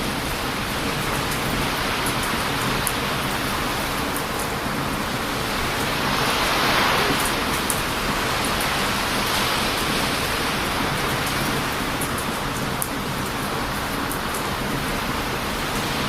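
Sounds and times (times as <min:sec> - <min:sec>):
campfire crackling: 0:00.0 - 0:16.0
strong wind: 0:00.0 - 0:16.0
surf breaking on a beach: 0:00.0 - 0:16.0.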